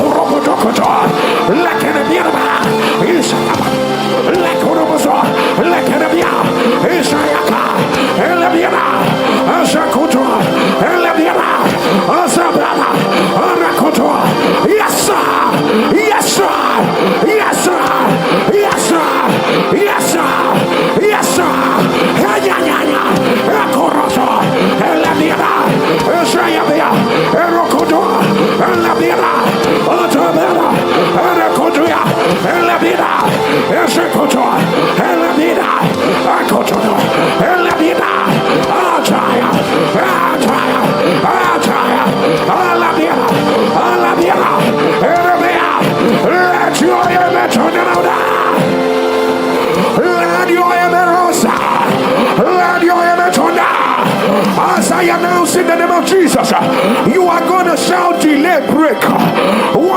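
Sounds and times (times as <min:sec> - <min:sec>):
keyboard chords: 0:00.0 - 0:59.9
many voices praying aloud: 0:00.0 - 0:59.9
person chanting or singing: 0:00.0 - 0:59.9
worship music: 0:00.0 - 0:59.9.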